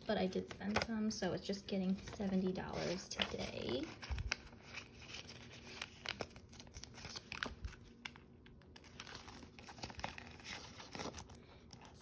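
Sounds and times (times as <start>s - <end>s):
banknotes rustling: 1.8s - 12.0s
plastic crackles: 1.8s - 12.0s.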